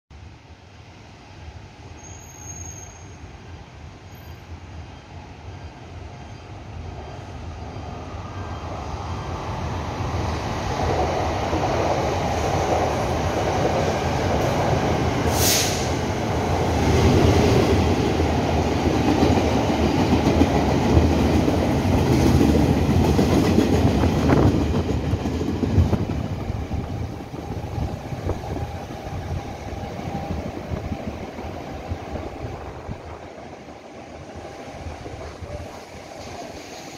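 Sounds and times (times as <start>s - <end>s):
train passing: 0.2s - 36.9s.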